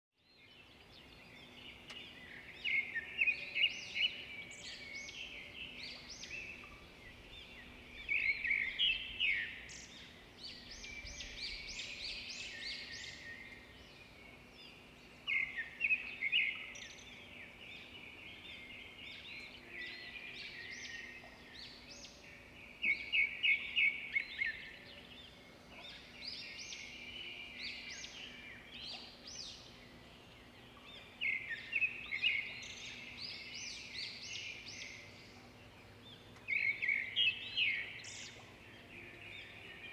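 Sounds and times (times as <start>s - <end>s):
birds chirping and trilling: 0.2s - 39.9s.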